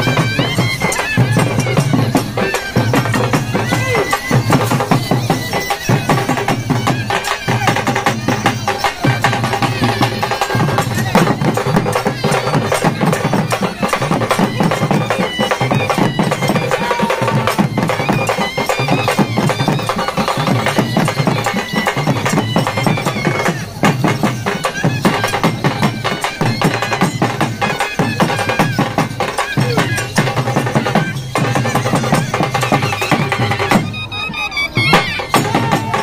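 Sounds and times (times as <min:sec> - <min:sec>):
loud fast drumming: 0:00.0 - 0:34.0, 0:34.8 - 0:36.0.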